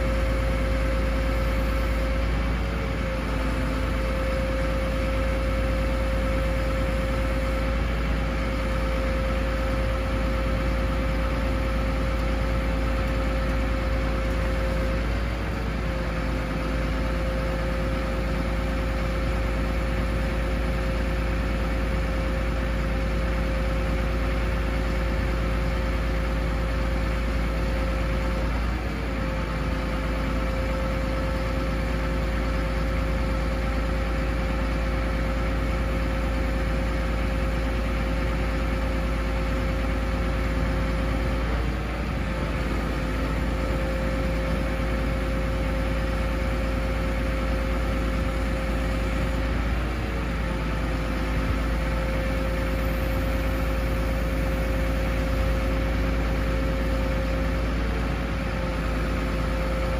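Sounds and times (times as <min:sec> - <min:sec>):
diesel engine deep drone: 0:00.0 - 0:59.9.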